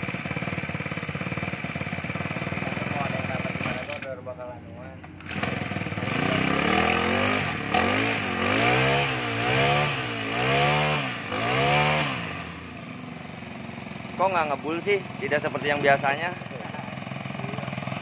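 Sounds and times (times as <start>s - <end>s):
brush cutter engine revving: 0.0s - 4.2s, 5.1s - 13.0s, 13.6s - 18.0s.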